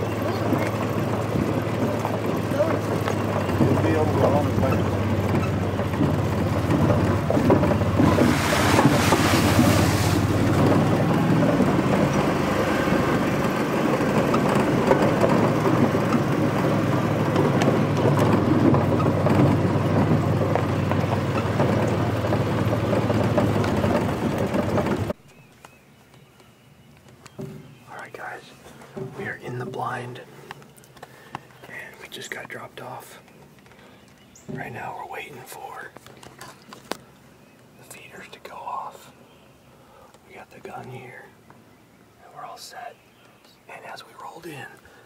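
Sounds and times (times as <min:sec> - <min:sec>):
road noise: 0:00.0 - 0:45.0
vehicle engine hum: 0:00.0 - 0:45.0.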